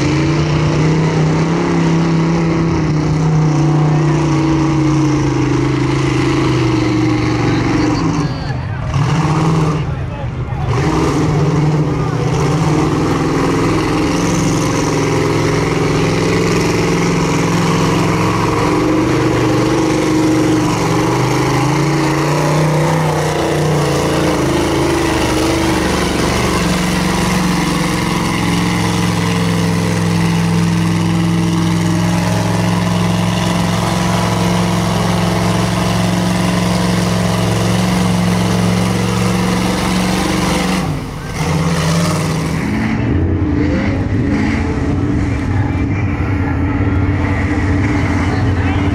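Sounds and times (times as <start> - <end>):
truck engine revving high: 0.0 - 48.9.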